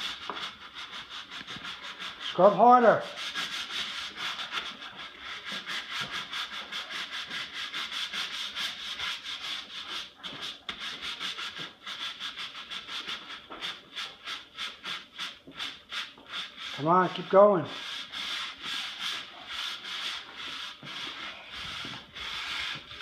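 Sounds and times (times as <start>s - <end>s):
brush scrubbing tile floor: 0.0s - 23.0s.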